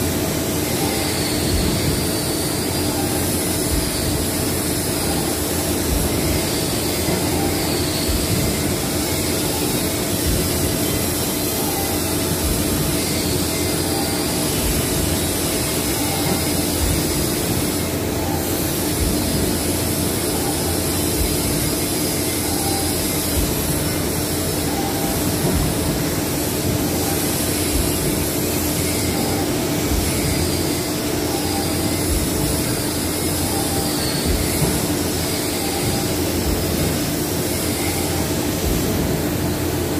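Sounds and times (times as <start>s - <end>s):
machinery running loudly: 0.0s - 39.9s
steady hum: 0.0s - 39.9s.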